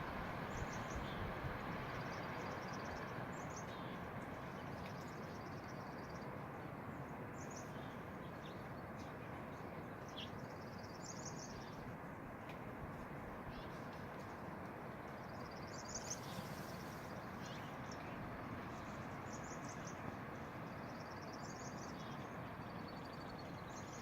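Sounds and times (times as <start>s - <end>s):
small birds chirping: 0.3s - 6.4s, 7.0s - 11.9s, 13.4s - 14.4s, 15.0s - 24.0s.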